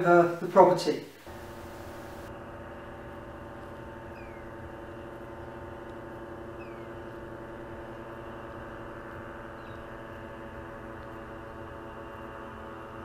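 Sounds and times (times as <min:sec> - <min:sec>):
distant paramotor engines droning: 0:01.1 - 0:13.0.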